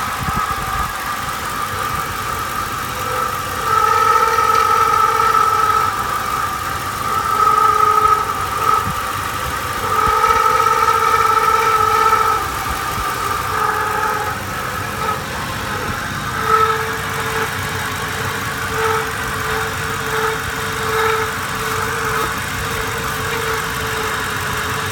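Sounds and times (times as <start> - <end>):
car engine running: 0.0 - 24.9
pulsing engine whine: 0.0 - 24.9.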